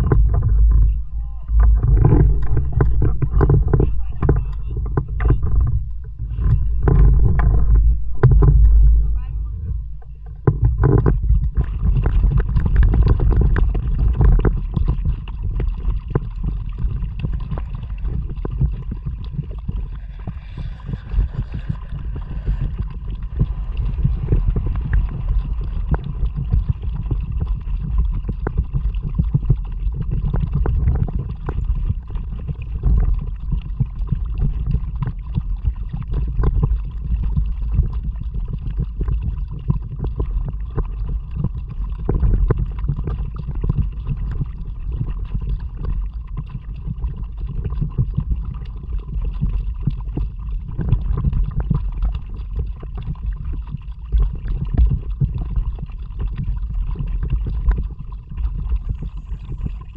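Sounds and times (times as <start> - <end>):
low rumble of water and wind: 0.0 - 59.9.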